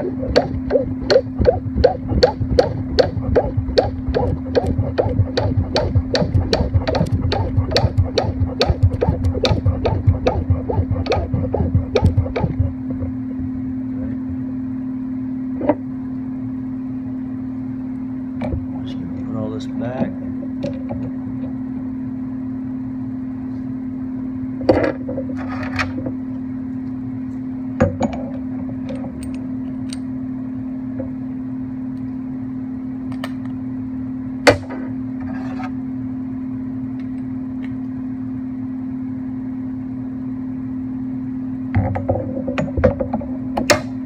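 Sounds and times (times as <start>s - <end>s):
steady hum: 0.0s - 44.0s.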